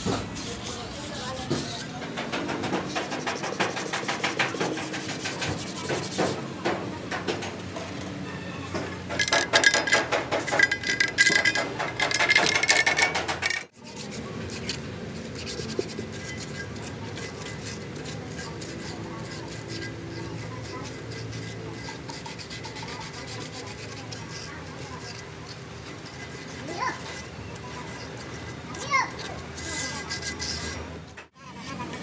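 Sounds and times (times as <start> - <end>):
putty knife scraping on metal: 0.4 - 8.1, 8.7 - 32.0.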